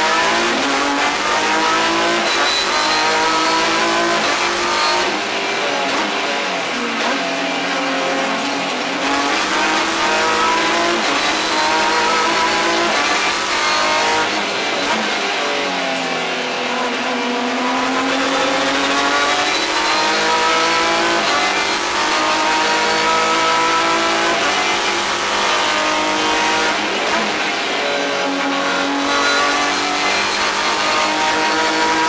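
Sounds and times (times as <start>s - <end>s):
race car engine accelerating: 0.0s - 32.0s.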